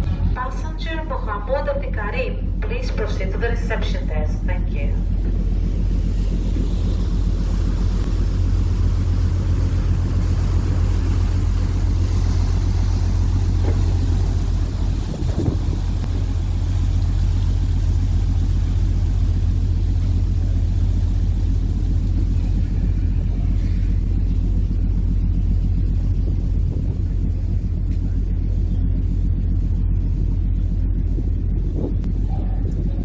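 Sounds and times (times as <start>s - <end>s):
ship diesel engines rumbling: 0.0s - 33.0s.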